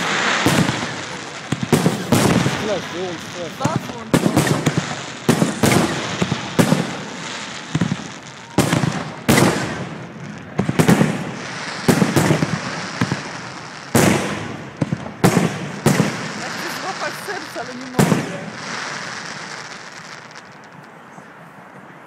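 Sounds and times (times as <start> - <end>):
fireworks exploding: 0.0 - 21.0.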